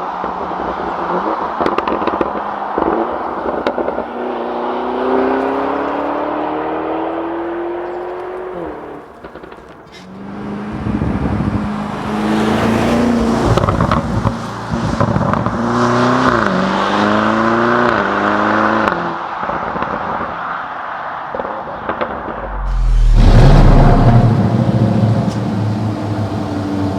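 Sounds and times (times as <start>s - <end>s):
car engine accelerating: 0.3s - 18.9s, 22.1s - 26.9s.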